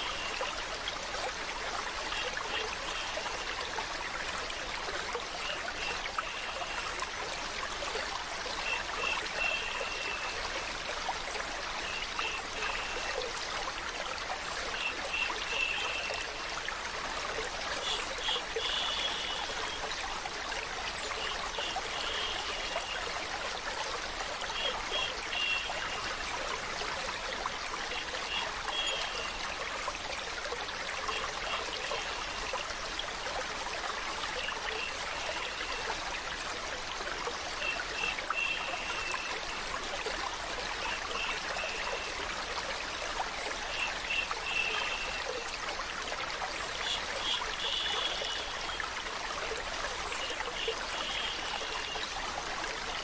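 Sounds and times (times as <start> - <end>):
stream trickling: 0.0 - 53.0.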